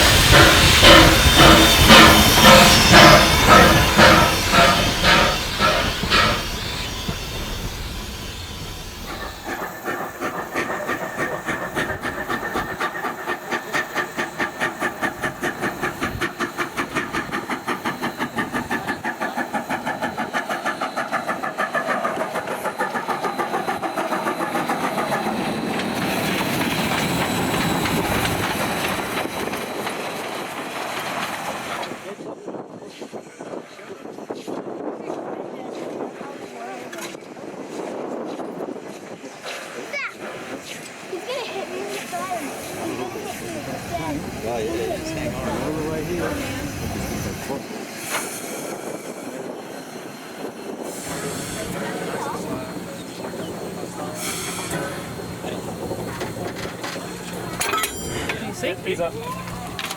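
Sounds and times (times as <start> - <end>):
steam locomotive chuffing: 0.0 - 33.5, 37.1 - 59.9.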